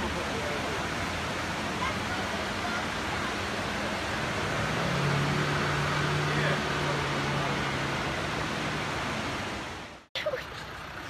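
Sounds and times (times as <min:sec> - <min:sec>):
rushing mountain stream: 0:00.0 - 0:11.0.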